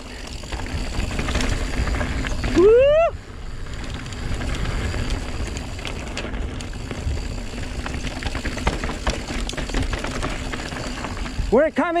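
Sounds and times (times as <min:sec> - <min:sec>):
bike tyres rumbling on dirt: 0:00.0 - 0:12.0
gravel and bike rattling: 0:00.0 - 0:12.0
wind buffeting microphone: 0:00.2 - 0:11.6.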